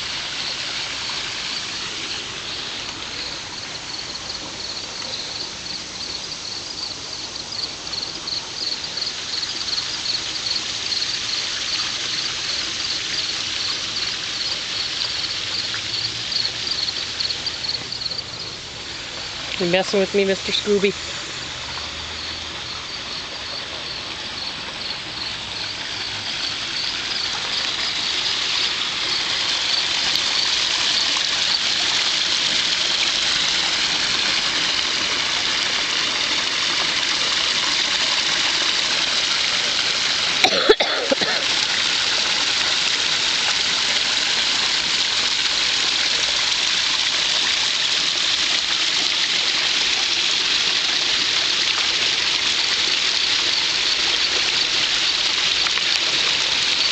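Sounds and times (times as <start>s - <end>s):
waterfall splashing into pond: 0.0s - 56.9s.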